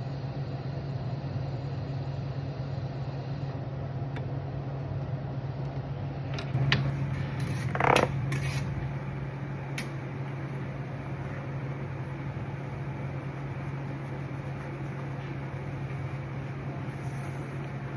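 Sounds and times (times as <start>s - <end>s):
welder humming: 0.0s - 17.9s.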